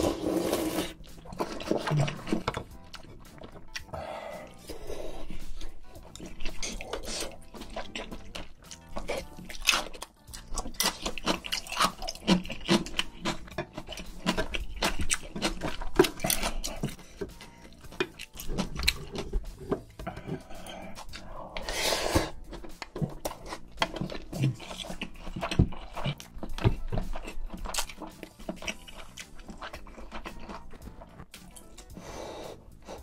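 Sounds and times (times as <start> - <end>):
person chewing with mouth sounds: 0.0 - 33.0.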